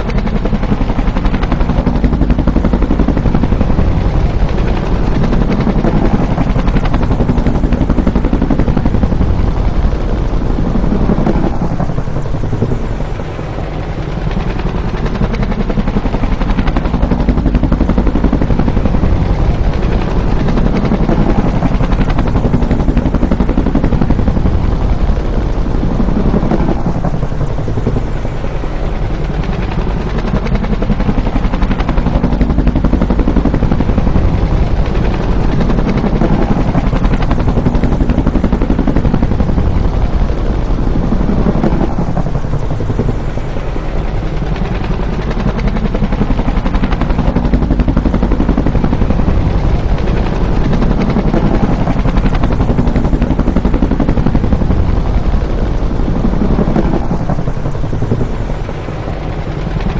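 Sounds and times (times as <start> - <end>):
helicopter rotor chopping: 0.0 - 59.9
turbine noise: 0.0 - 59.9.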